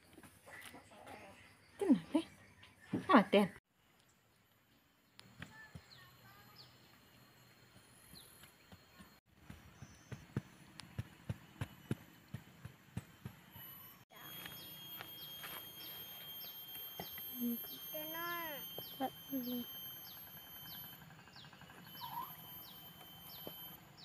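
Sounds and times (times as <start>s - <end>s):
faint bird chirps: 0.5s - 12.0s, 13.4s - 24.0s.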